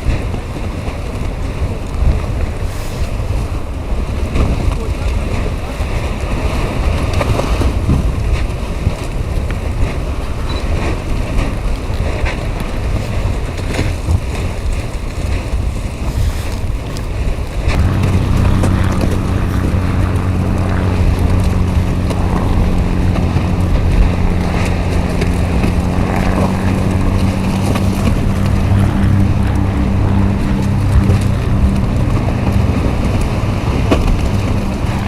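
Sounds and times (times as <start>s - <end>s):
low motor hum: 0.0s - 35.0s
wind buffeting microphone: 0.0s - 35.0s.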